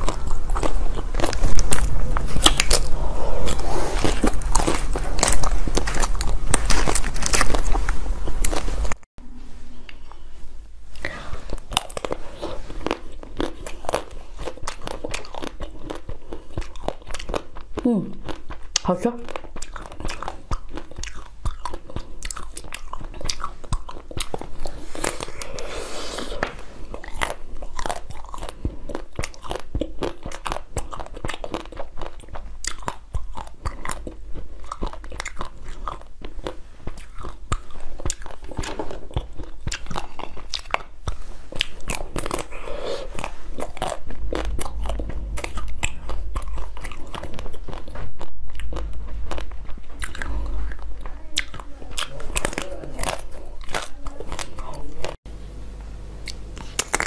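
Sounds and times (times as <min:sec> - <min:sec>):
crunching frozen chocolate: 0:00.0 - 0:09.0, 0:11.0 - 0:55.2, 0:56.3 - 0:57.0.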